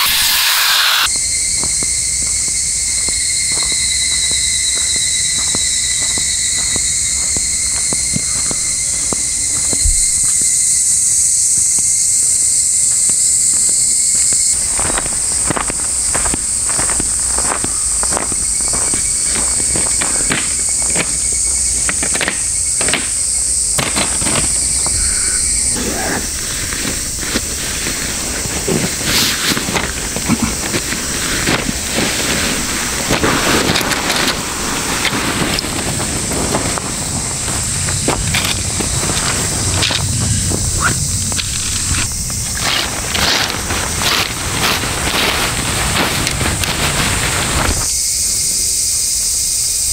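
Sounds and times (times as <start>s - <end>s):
footsteps on forest path: 0.0s - 10.7s, 12.9s - 48.2s
insects chorus: 0.0s - 49.9s.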